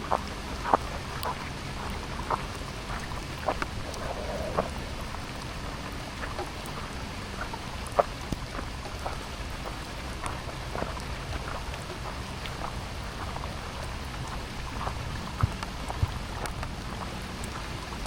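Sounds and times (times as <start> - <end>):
rain hiss: 0.0 - 18.0
raindrops ticking: 0.0 - 18.0.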